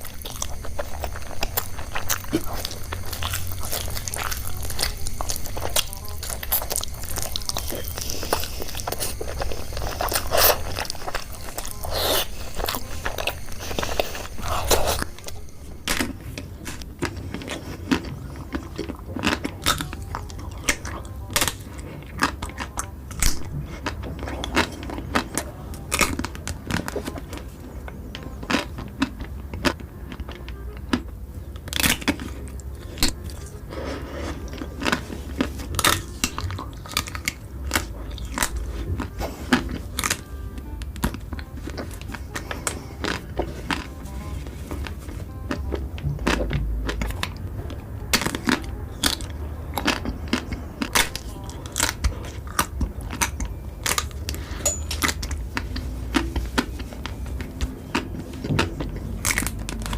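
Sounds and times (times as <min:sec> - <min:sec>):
person chewing crunchy food: 0:00.0 - 0:59.9
steady low hum: 0:00.0 - 0:59.9.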